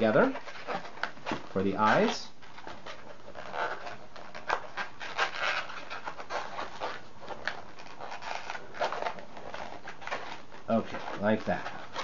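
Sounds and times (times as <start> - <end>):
balloons rubbing and scraping: 0.0 - 12.0.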